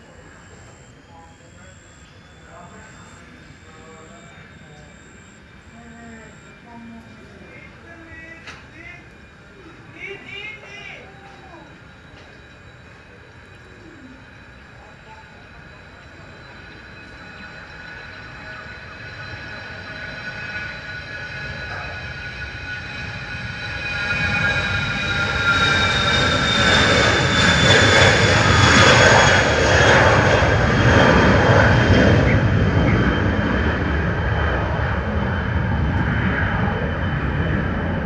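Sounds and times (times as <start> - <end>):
jet aircraft passing: 0.0 - 38.0.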